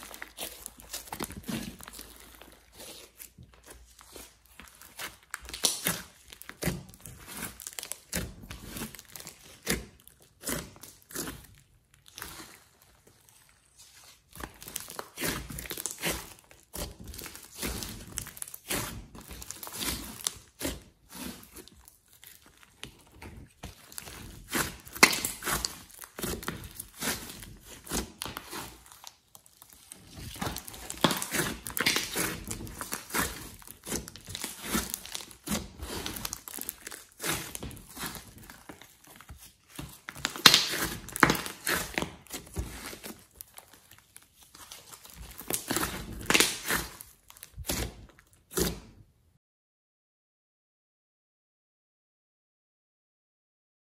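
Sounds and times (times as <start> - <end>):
slime squishing: 0.0 - 49.1.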